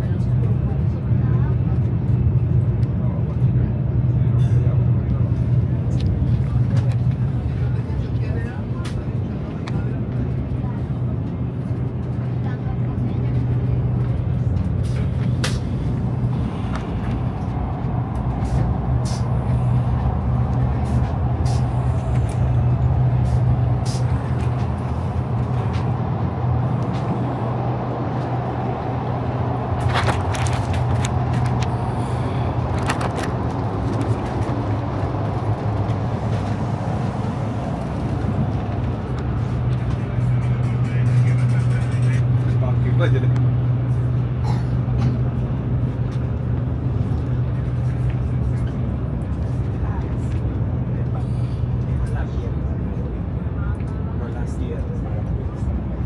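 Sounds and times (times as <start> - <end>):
steady low hum: 0.0 - 56.0
train rolling rumble: 0.0 - 56.0.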